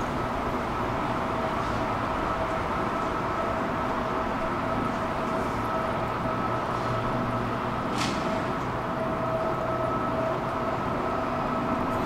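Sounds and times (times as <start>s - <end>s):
metro platform hum and rumble: 0.0s - 12.0s.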